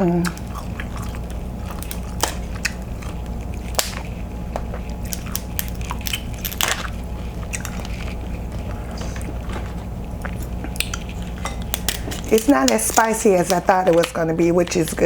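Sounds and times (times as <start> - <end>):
person chewing and crunching: 0.0 - 15.0
steady low hum: 0.0 - 15.0.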